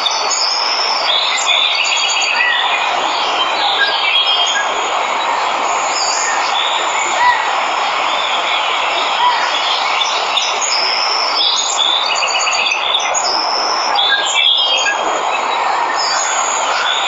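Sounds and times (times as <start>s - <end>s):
waterfall rushing: 0.0s - 17.0s
birds chirping and calling: 0.2s - 17.0s.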